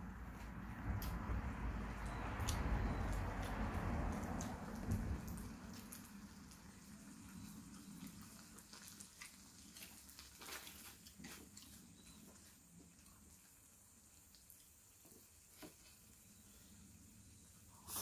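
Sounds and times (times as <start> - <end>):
octopus bubbling in a frying pan: 0.8 - 18.0.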